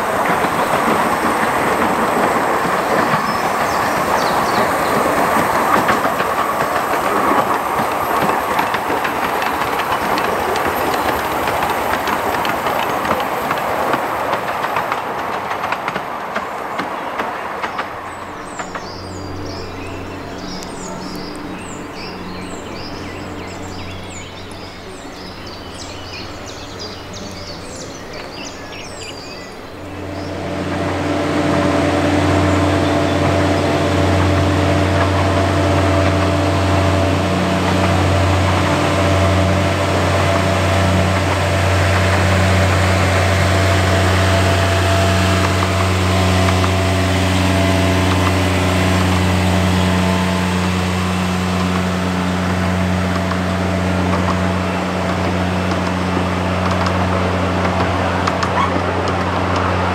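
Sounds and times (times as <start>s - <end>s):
birds chirping: 0.0s - 59.9s
diesel locomotive engine drone: 0.0s - 59.9s.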